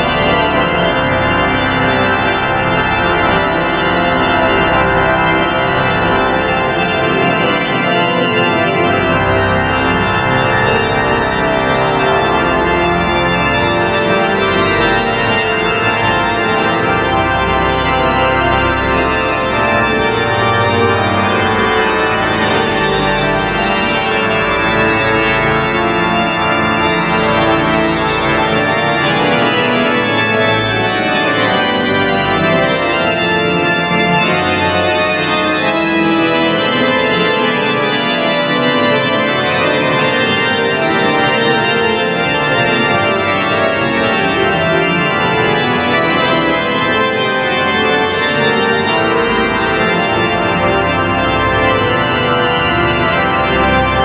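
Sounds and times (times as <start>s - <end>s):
deep organ pedal bass notes: 0.0s - 54.0s
organ playing held chords: 0.0s - 54.0s.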